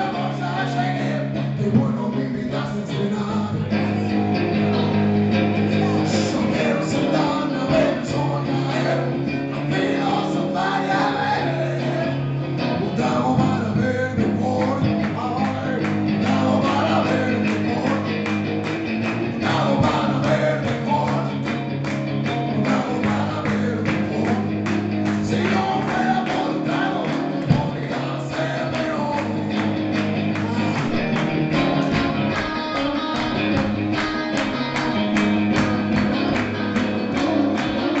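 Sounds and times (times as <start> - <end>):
electric guitar: 0.0 - 38.0
live rock music: 0.0 - 38.0.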